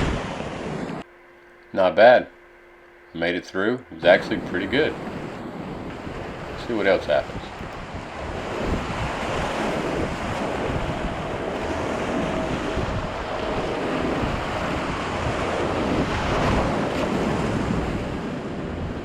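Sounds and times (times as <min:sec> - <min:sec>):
whitewater roaring: 0:00.0 - 0:01.0, 0:04.0 - 0:19.0
wind buffeting microphone: 0:00.0 - 0:01.0, 0:04.0 - 0:19.0.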